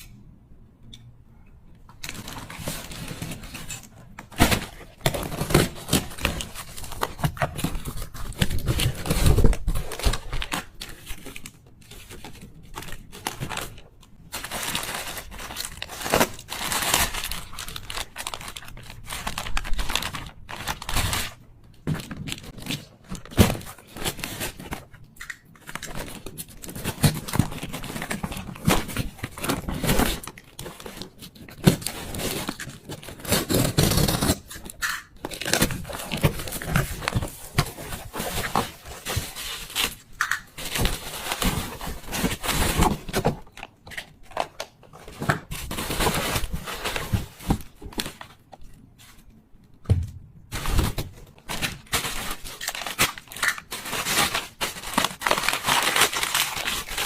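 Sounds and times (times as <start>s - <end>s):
packaging crinkling and tearing: 2.0s - 49.3s, 50.5s - 57.0s.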